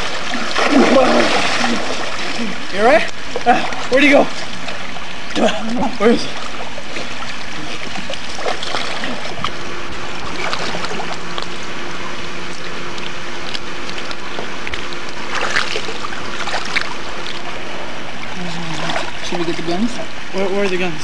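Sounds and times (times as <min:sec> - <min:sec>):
faint steady hum: 0:00.0 - 0:21.0
pool water splashing: 0:00.0 - 0:21.0.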